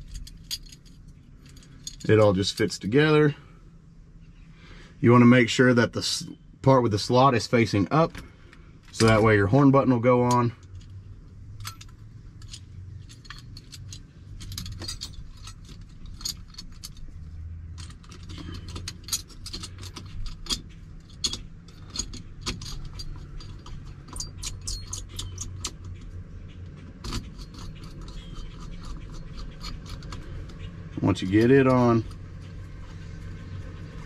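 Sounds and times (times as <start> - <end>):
light metallic clicks and rattles: 0.0 - 3.2, 7.7 - 34.0.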